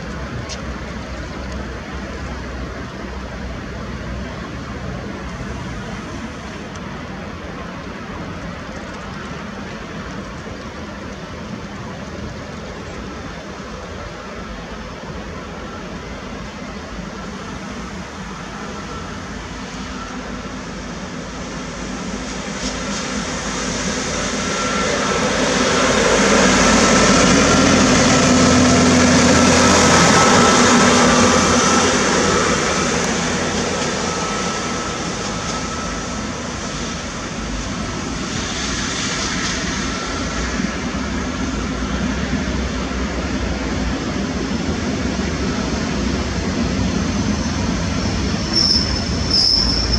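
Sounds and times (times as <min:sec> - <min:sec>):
rail vehicle engine whining: 0:00.0 - 0:49.9.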